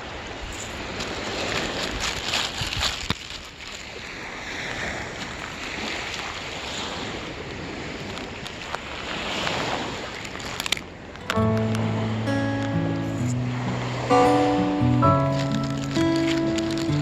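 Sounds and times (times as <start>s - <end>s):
waves washing onto beach: 0.0s - 17.0s.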